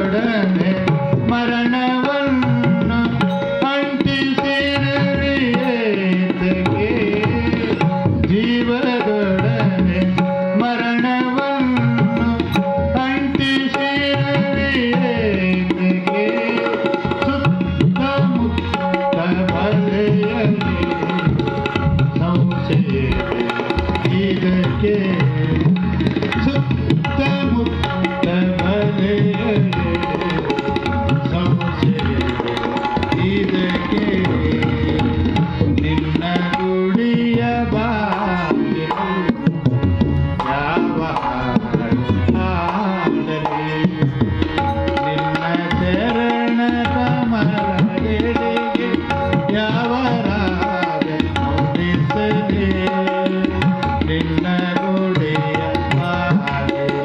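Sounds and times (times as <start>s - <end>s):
harmonium notes: 0.0s - 57.0s
man singing: 0.0s - 57.0s
tabla strokes: 0.0s - 57.0s.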